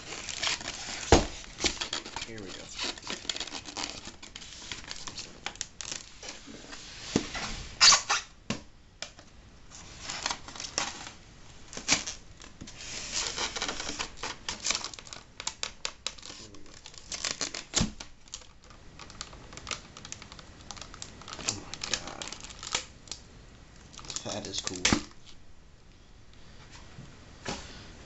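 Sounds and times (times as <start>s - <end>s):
plastic wrap rustling: 0.0s - 8.3s, 9.7s - 25.4s.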